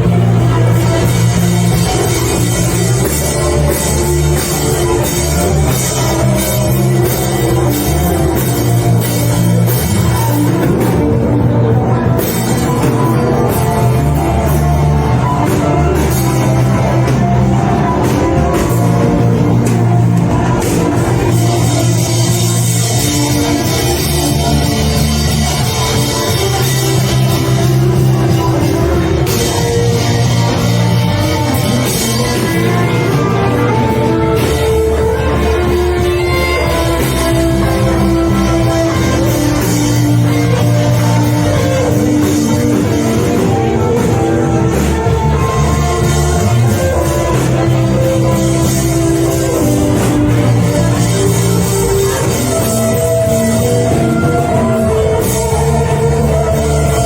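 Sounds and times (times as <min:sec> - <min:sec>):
loud band music: 0:00.0 - 0:57.0.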